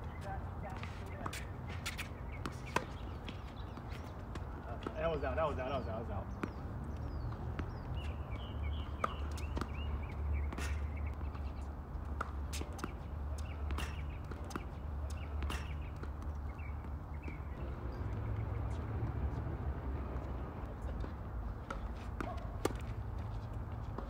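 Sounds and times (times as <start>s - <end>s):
birds chirping: 0.0s - 23.5s.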